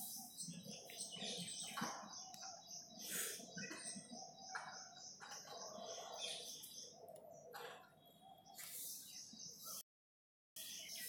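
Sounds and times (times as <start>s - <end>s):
faint high-pitched chirping: 0.0s - 9.8s, 10.6s - 11.0s.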